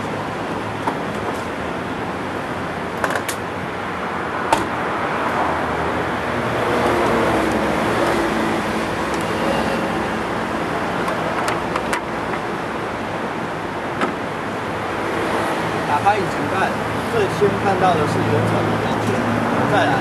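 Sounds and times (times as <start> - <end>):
traffic and street noise: 0.0 - 20.0.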